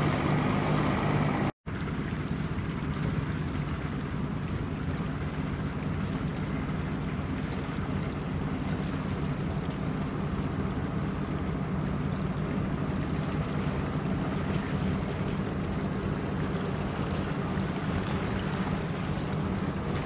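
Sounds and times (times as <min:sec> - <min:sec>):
rushing water: 0:00.0 - 0:20.0
ship diesel engine drone: 0:00.0 - 0:20.0
wind: 0:00.0 - 0:20.0.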